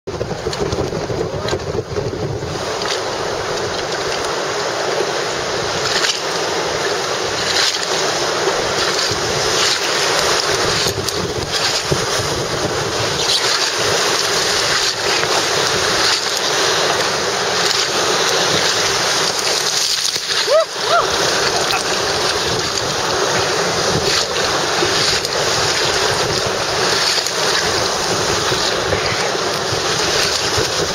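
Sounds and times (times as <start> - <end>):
water splashing against raft: 0.1 - 30.9
whitewater rushing: 0.1 - 30.9
wind buffeting microphone: 0.1 - 30.9.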